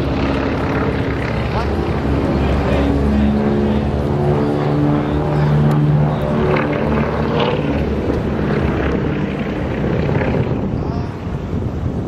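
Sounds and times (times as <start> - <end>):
distant propeller plane droning: 0.0 - 12.0.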